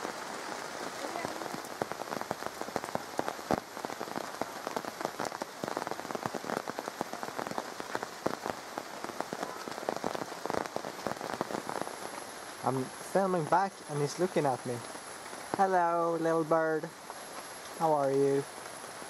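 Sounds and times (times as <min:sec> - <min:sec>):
raindrops ticking on surfaces: 0:00.0 - 0:19.0
steady rain: 0:00.0 - 0:19.0.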